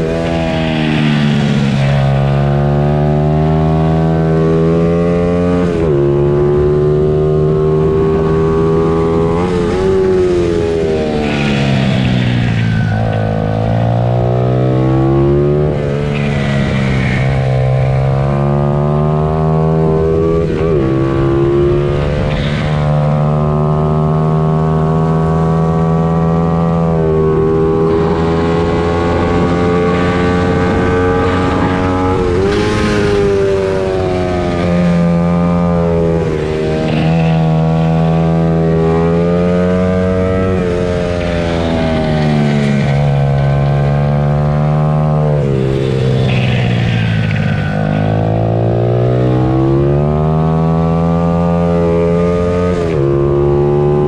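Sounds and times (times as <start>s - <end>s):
pit bike engines revving: 0.0s - 54.0s.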